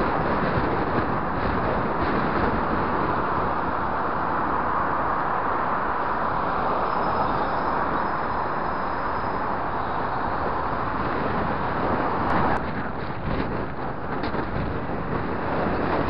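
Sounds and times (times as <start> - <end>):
cars passing: 0.0 - 16.0
road noise: 0.0 - 16.0
wind rushing on microphone: 0.0 - 16.0.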